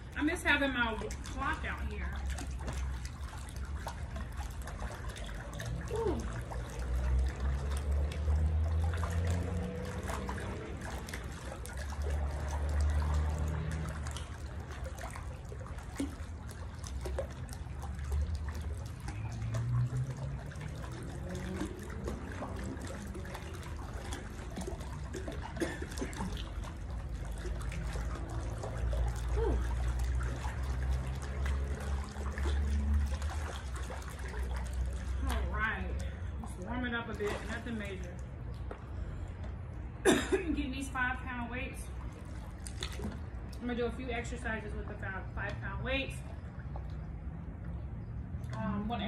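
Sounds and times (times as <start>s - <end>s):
water sloshing and lapping: 0.0s - 49.0s.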